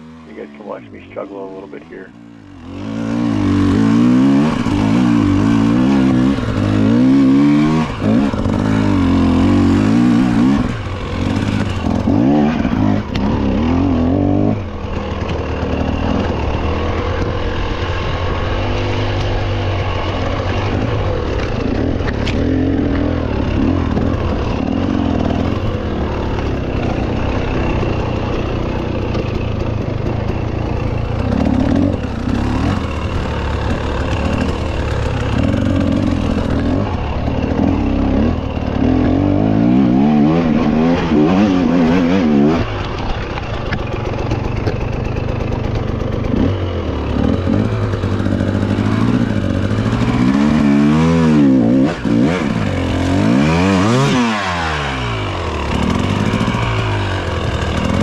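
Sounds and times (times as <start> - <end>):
mountain bike rumbling and rattling: 0.0 - 58.0.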